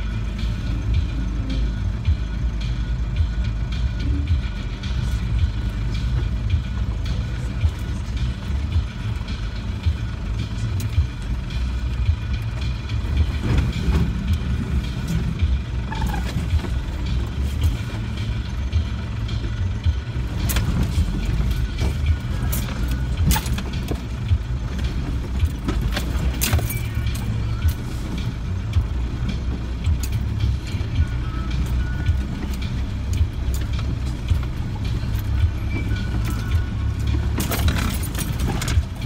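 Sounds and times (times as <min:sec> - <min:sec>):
diesel engine at low speed: 0:00.0 - 0:39.0
vehicle knocks and rattles: 0:05.4 - 0:39.0.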